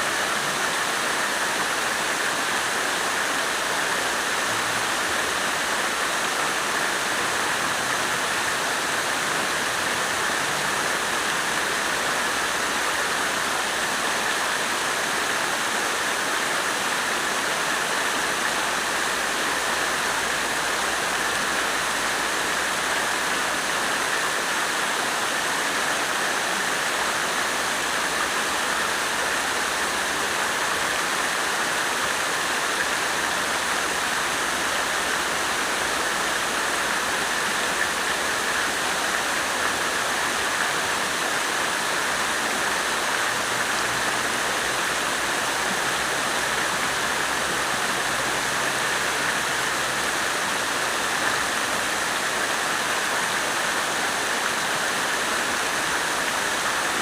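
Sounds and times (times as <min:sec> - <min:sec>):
water fountain splashing: 0:00.0 - 0:57.0.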